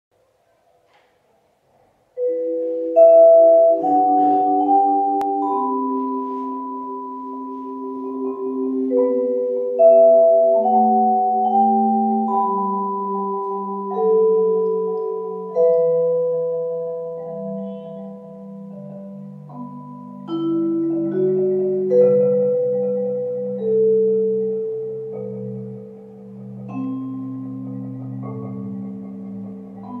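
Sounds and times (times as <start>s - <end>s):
marimba roll: 2.2s - 30.0s
vibraphone notes: 2.2s - 30.0s.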